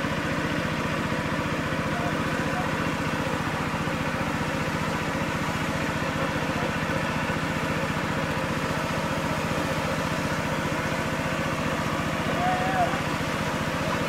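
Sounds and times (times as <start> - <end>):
small engine chugging: 0.0 - 14.0.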